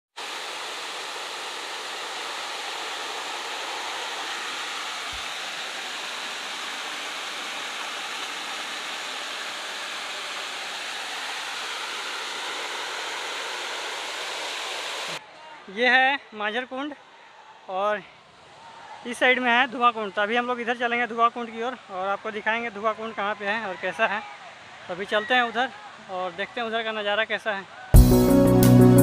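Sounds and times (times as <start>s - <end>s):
small waterfall rushing: 0.1s - 15.2s, 17.5s - 26.8s.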